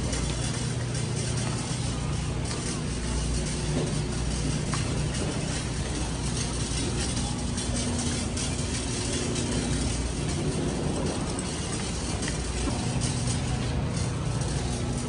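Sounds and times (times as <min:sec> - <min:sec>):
refrigerated cases humming: 0:00.0 - 0:15.0
shopping cart rolling: 0:00.0 - 0:15.0.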